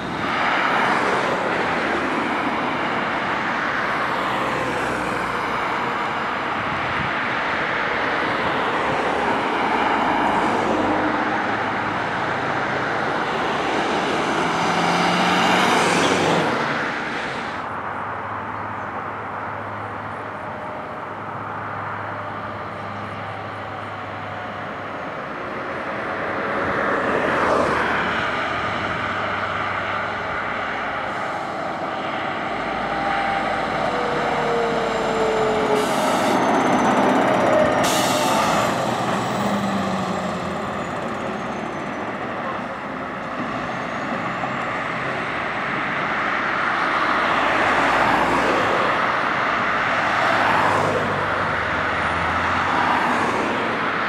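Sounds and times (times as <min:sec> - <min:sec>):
emergency vehicles driving by: 0:00.0 - 0:54.0.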